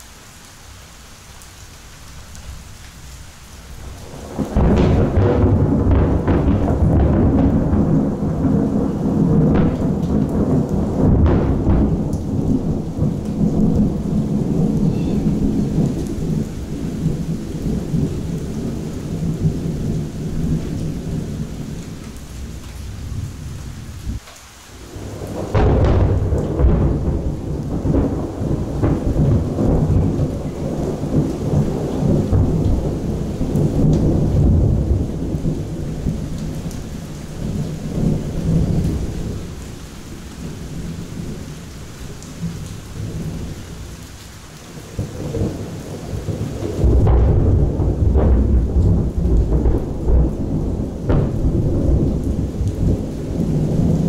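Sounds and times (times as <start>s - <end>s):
steady rain: 0.0s - 54.0s
thunder rolling: 3.9s - 24.2s, 24.8s - 41.6s, 44.9s - 54.0s.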